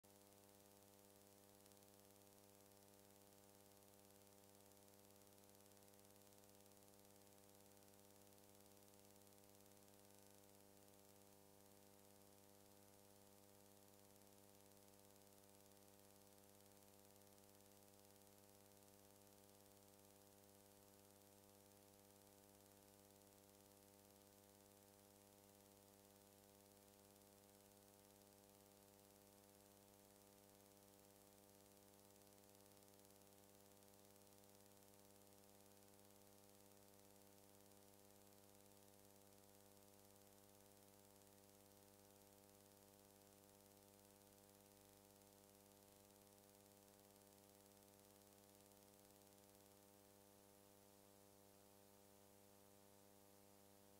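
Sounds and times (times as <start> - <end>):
faint electrical hum with hiss: 0.0 - 53.9.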